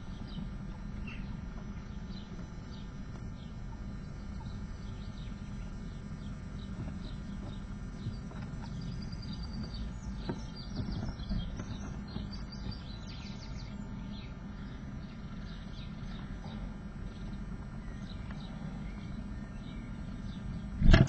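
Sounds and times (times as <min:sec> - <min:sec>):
nestlings chirping: 0:00.0 - 0:21.0
steady low rumble: 0:00.0 - 0:21.0.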